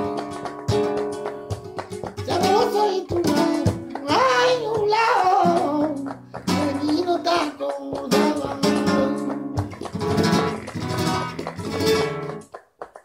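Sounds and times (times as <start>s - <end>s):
flamenco guitar strumming: 0.0s - 13.0s.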